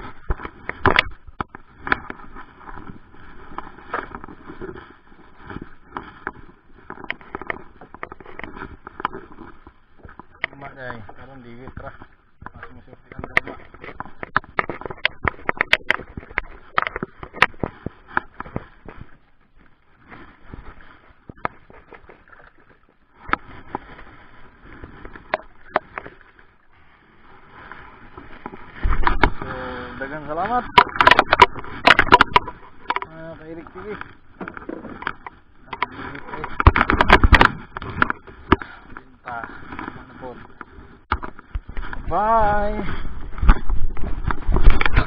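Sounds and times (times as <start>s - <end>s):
water lapping against boat hull: 0.0s - 45.0s.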